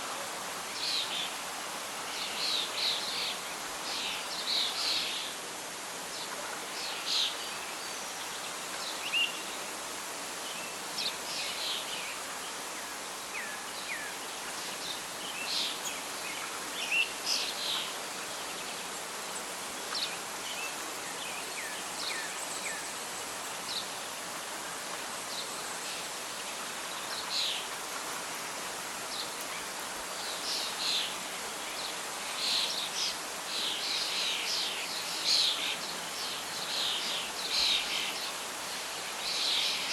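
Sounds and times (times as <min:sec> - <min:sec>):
rustling leaves: 0:00.0 - 0:39.9
wind: 0:00.0 - 0:39.9.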